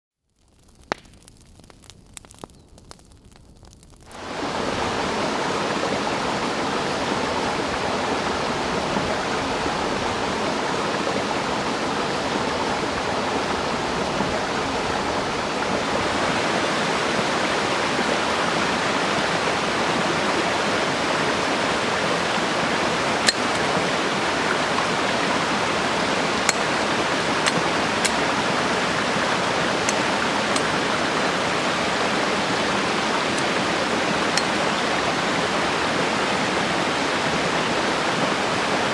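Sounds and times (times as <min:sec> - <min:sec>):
stream running over rocks: 0:00.4 - 0:38.9.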